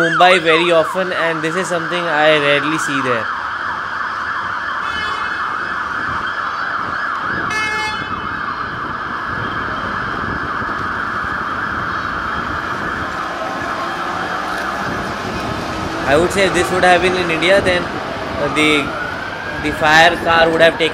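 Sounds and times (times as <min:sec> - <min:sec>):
fire engine siren warbling: 0:00.0 - 0:20.9.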